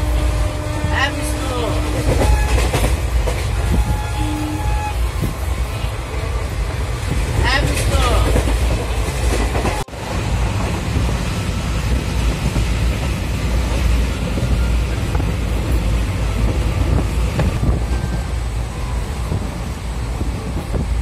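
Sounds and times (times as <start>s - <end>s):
train rumble and rattle: 0.0s - 21.0s.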